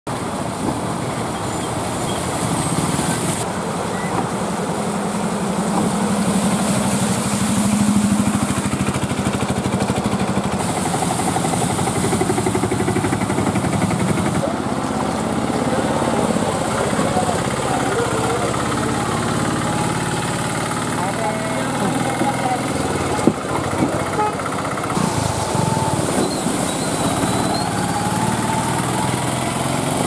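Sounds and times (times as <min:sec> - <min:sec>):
auto rickshaw engines running: 0:00.1 - 0:30.0
water splashing from wheels: 0:00.1 - 0:30.0.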